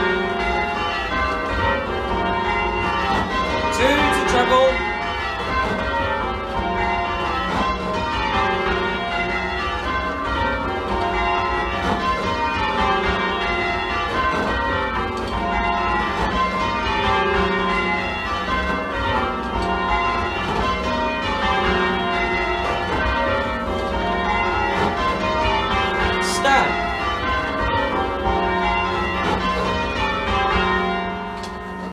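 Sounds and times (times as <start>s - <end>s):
church bells ringing: 0.0s - 31.9s.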